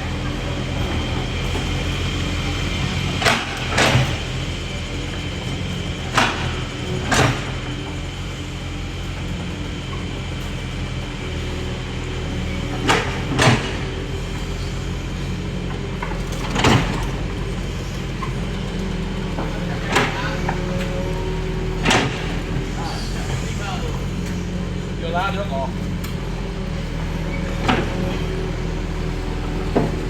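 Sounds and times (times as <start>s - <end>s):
diesel machinery engine running: 0.0s - 30.0s.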